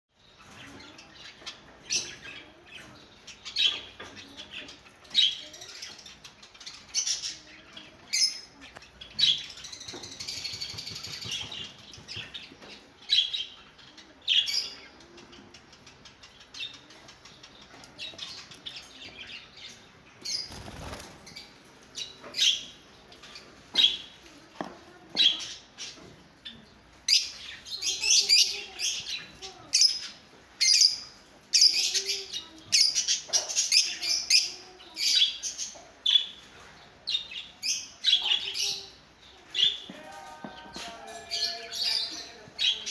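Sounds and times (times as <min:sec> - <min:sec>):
lovebirds chirping: 0:00.2 - 0:42.9.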